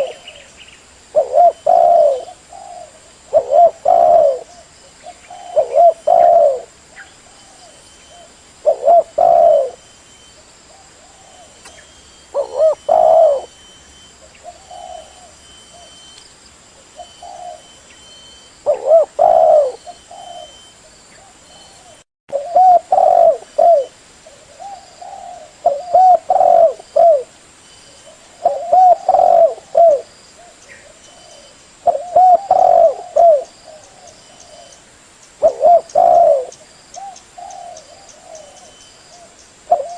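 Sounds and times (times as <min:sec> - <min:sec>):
dove cooing: 0:00.0 - 0:00.5, 0:01.1 - 0:09.9, 0:10.7 - 0:13.6, 0:14.2 - 0:16.0, 0:16.8 - 0:27.3, 0:28.0 - 0:34.8, 0:35.4 - 0:39.9.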